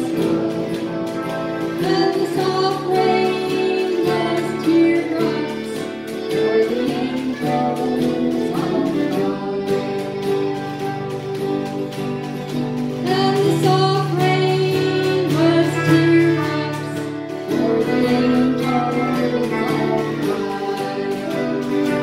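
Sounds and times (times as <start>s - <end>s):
woman singing: 0.0s - 11.3s, 13.0s - 22.0s
acoustic guitar: 0.0s - 22.0s.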